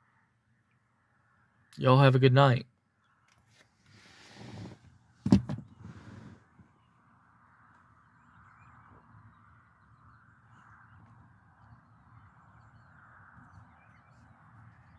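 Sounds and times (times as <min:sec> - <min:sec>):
outdoor background noise: 0:00.0 - 0:14.9.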